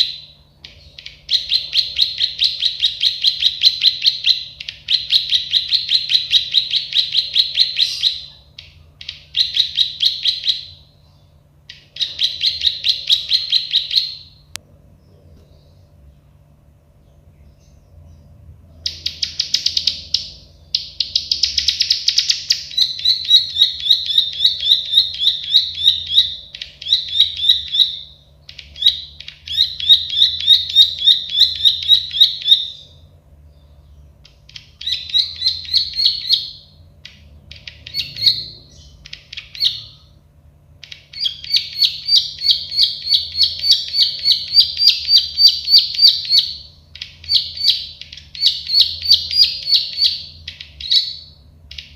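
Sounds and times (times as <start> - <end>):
bird clicking song: 0.0 - 10.8, 11.6 - 14.6, 18.8 - 32.9, 34.1 - 40.1, 40.8 - 51.9.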